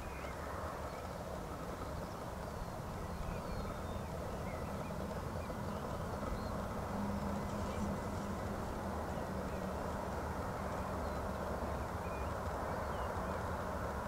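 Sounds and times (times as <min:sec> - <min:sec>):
low hum: 0:00.0 - 0:13.6
birds chirping faintly: 0:00.0 - 0:14.0.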